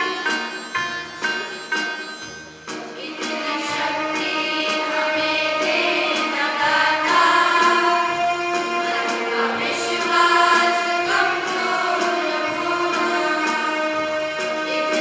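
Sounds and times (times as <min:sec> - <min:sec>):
group of young voices singing: 0:02.8 - 0:15.0.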